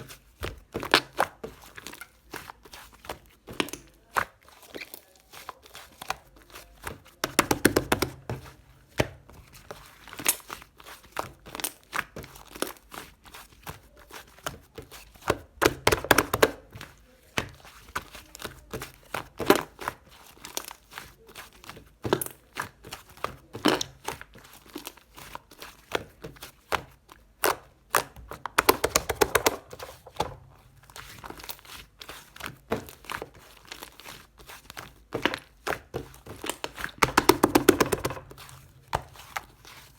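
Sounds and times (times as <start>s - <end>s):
slime squished by hand: 0.1s - 39.9s.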